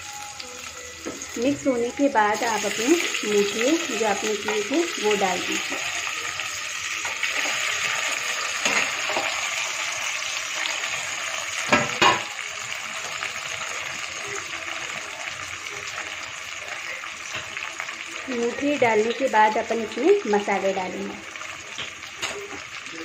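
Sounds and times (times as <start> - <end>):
oil sizzling in a pot: 0.0 - 23.0.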